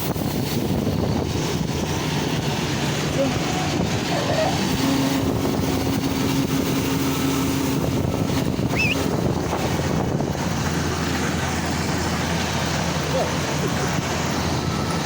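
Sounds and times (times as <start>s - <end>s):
high hum: 0.0s - 12.4s
vehicle engine running: 0.0s - 15.0s
wind buffeting microphone: 0.0s - 15.0s.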